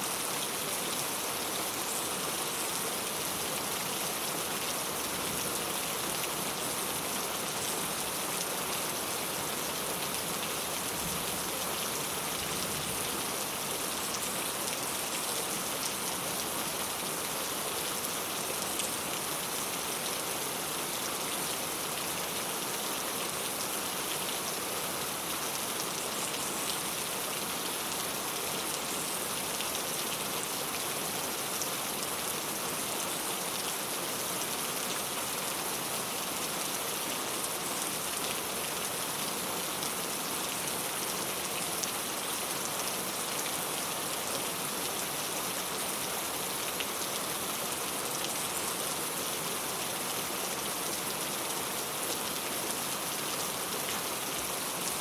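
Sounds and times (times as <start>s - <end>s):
rain on a tile roof: 0.0s - 55.0s.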